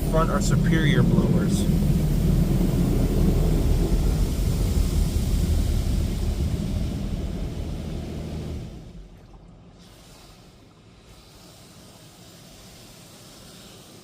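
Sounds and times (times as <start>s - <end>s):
car wash jets spraying car: 0.0s - 14.0s.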